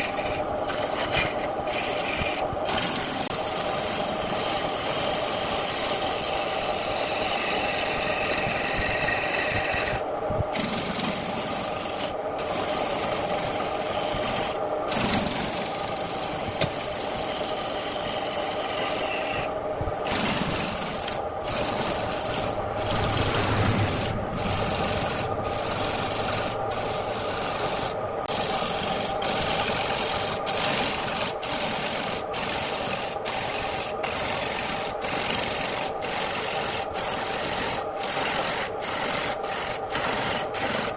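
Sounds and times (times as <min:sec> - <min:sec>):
lathe motor hum: 0:00.0 - 0:40.9
turning tool scraping wood: 0:00.0 - 0:40.9.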